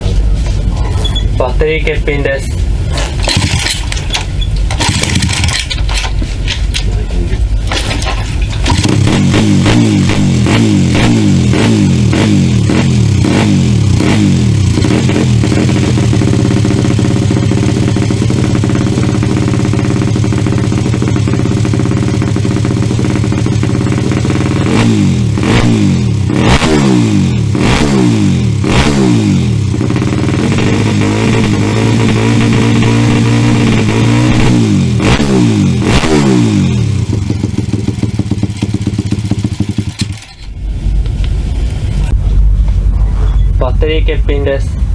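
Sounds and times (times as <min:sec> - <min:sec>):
small motorcycle engine idling and revving: 0:02.7 - 0:42.5.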